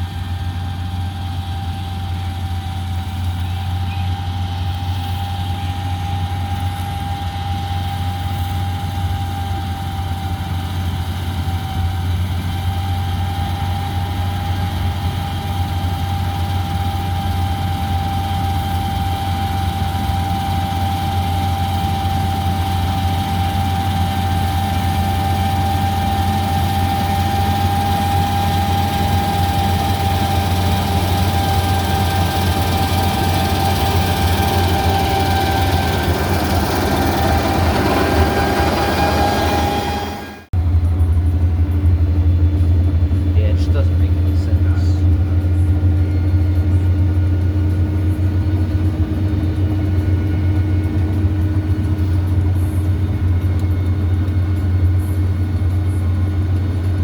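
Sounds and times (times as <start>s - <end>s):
deep engine drone: 0.0s - 57.0s
steady high whine: 0.0s - 57.0s.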